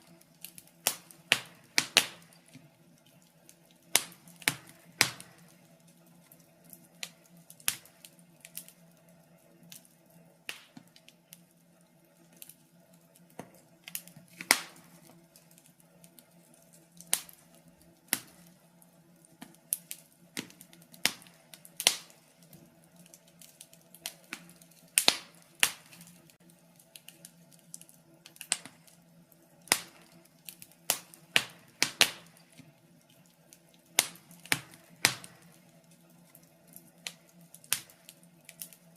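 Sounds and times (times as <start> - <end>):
wood fire popping and snapping: 0.0 - 38.9.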